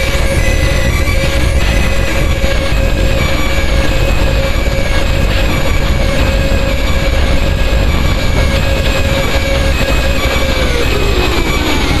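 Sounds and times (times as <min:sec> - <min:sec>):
harsh noise music: 0:00.0 - 0:12.0.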